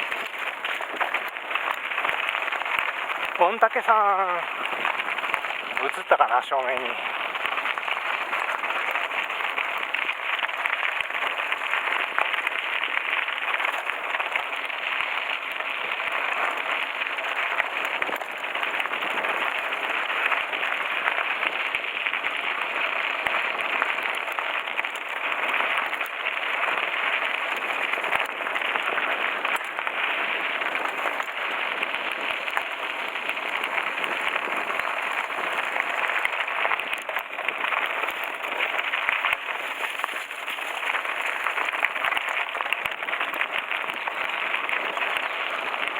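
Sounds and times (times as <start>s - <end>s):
bike tyres crunching on gravel: 0.0s - 45.9s.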